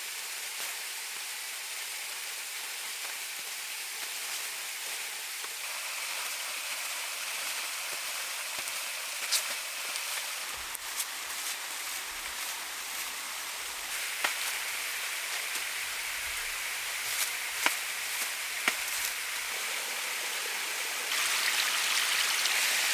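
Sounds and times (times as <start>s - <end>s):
water hissing: 4.0s - 22.9s.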